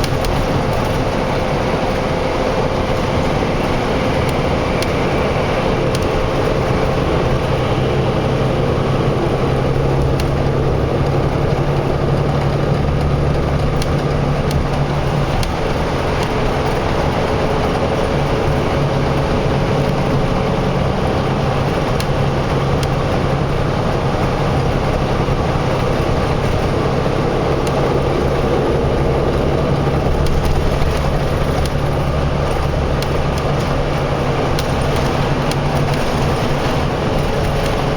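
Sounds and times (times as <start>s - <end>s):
road noise: 0.0s - 37.9s
vehicle engine hum: 0.0s - 37.9s.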